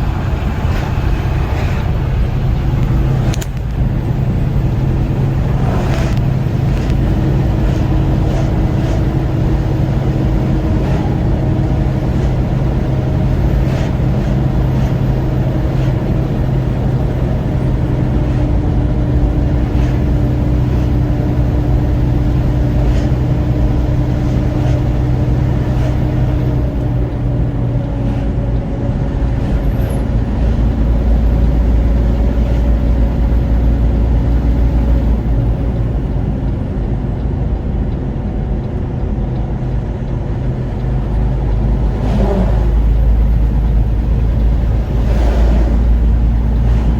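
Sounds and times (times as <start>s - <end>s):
road noise: 0.0s - 46.9s
vehicle engine droning: 0.0s - 46.9s.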